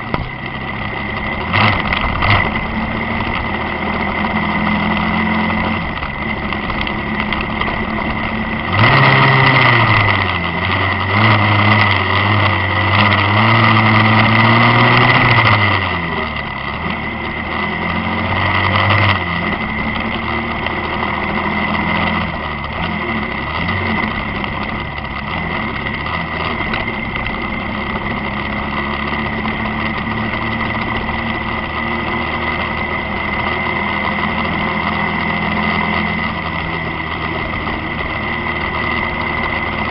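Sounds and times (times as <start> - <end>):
louder engine with shifting pitch: 0.0 - 39.9
steady high whine: 0.0 - 39.9
vehicle engine running: 0.0 - 39.9.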